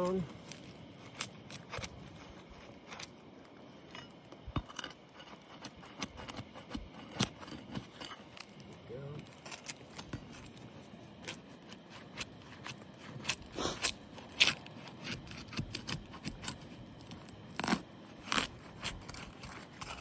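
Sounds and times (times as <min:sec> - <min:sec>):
shingle tab crackling and scraping: 0:00.0 - 0:20.0.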